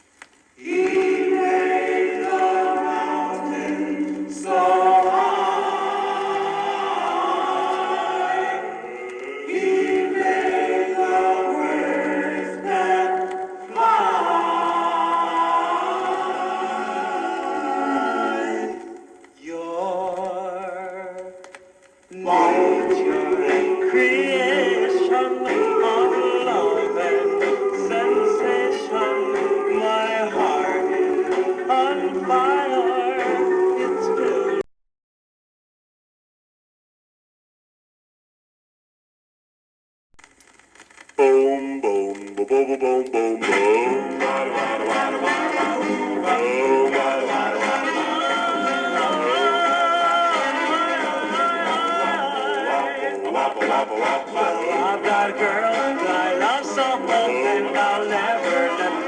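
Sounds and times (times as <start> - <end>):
male vocal group singing harmonies: 0.6 - 34.6, 41.2 - 59.0.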